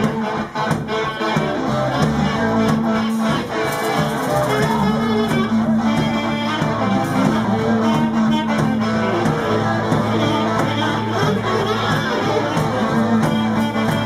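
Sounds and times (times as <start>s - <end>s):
blues band playing: 0.0s - 14.0s.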